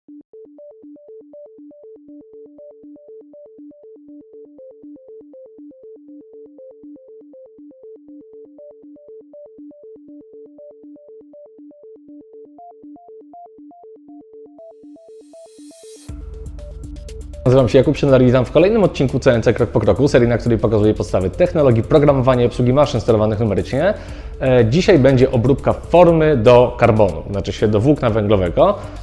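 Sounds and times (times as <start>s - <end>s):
electronic synthesizer music: 0.1s - 29.0s.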